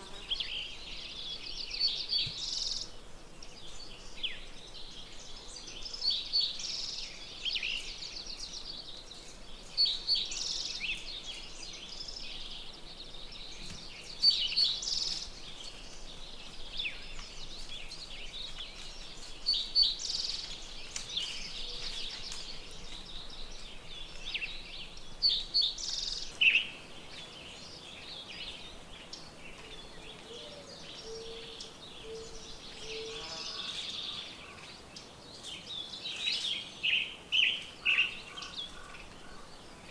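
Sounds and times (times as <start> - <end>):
bird singing loud high song: 0.0 - 39.9
birds chirping: 0.0 - 39.9.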